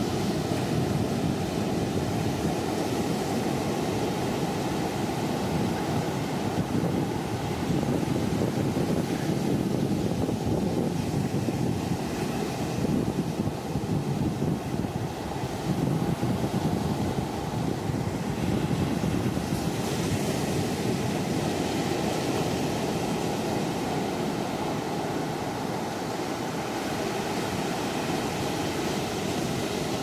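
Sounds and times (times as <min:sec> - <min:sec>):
waves washing: 0:00.0 - 0:30.0
wind buffeting microphone: 0:00.0 - 0:30.0.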